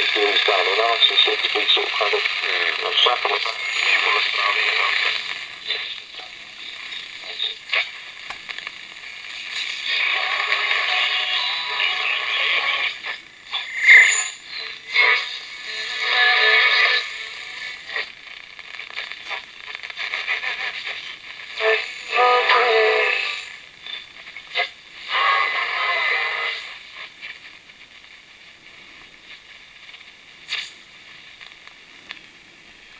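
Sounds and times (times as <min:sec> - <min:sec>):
thin radio broadcast through speaker: 0:00.0 - 0:31.7
faint static hiss: 0:00.0 - 0:32.9.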